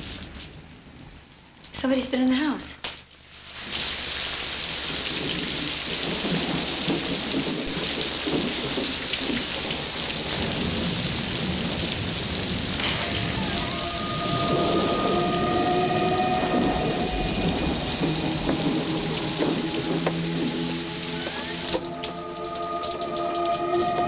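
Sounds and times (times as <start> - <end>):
thunder rumbling: 0.0 - 2.2, 3.6 - 24.0
heavy rain: 0.0 - 24.0.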